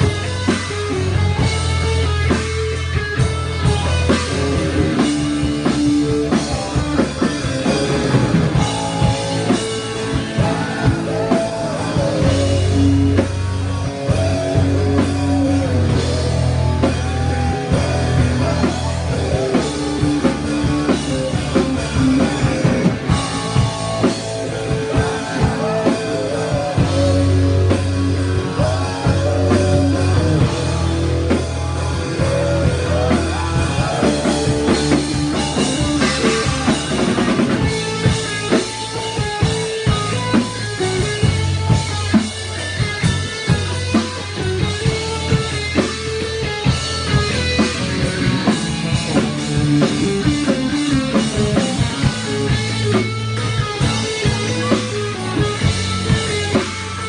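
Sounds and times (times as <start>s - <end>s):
drum kit: 0.0s - 57.0s
electric guitar: 0.0s - 57.0s
live rock band playing: 0.0s - 57.0s.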